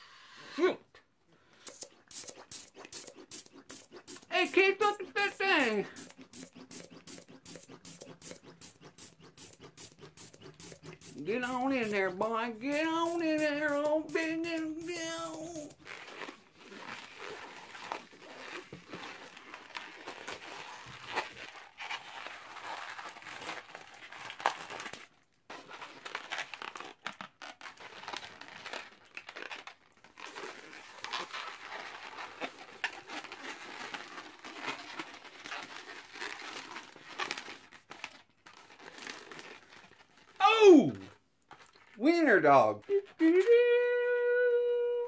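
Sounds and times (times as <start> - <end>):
balloon rubber rubbing and crinkling: 1.5 - 45.0.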